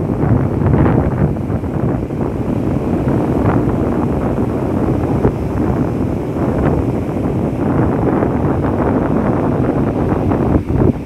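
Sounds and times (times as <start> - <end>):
ocean surf breaking on beach: 0.0 - 11.0
wind buffeting microphone: 0.0 - 11.0.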